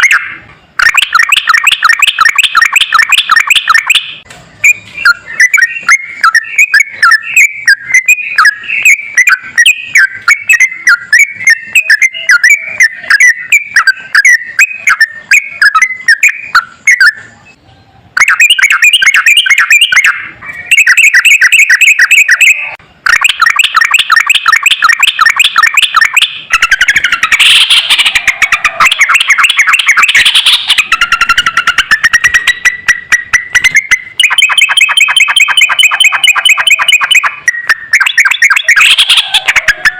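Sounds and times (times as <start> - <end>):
bulbul rapid chattering song: 0.0 - 39.9.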